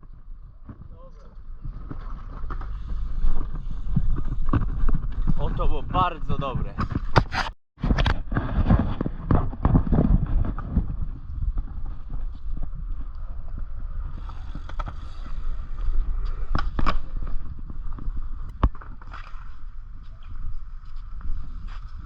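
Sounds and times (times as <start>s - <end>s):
bicycle tyre rumble: 0.0s - 22.0s.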